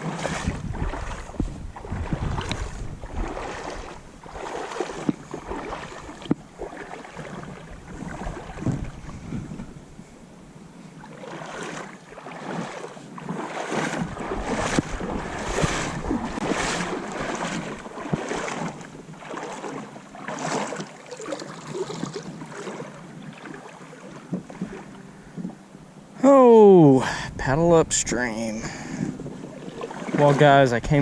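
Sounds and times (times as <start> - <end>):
paddle splashing through water: 0.0 - 9.5, 11.0 - 25.6, 28.6 - 31.0.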